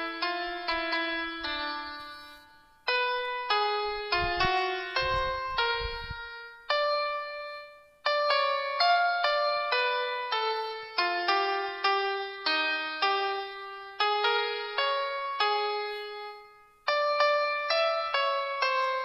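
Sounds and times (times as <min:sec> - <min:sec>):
slow piano-like keyboard melody: 0:00.0 - 0:19.0.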